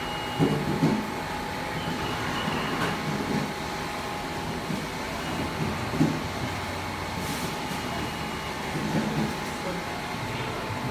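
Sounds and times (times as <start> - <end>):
constant machine whine: 0.0 - 10.9.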